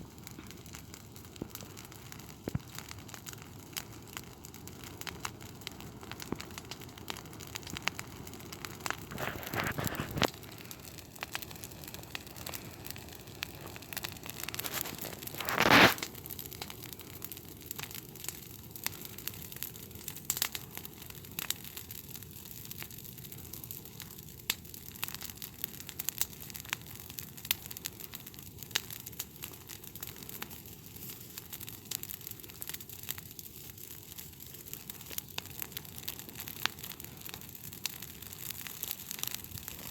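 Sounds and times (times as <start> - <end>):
embers crackling and popping: 0.0 - 39.9.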